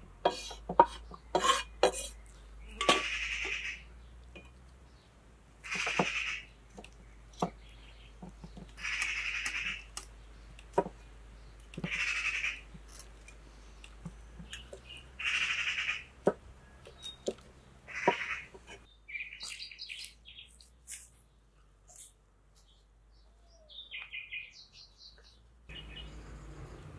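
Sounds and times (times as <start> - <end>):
birds chirping: 0.3 - 21.5, 22.6 - 26.9.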